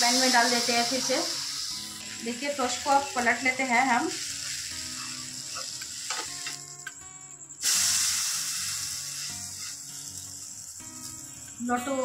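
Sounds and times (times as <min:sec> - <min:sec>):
bread sizzling in hot oil: 0:00.0 - 0:12.0.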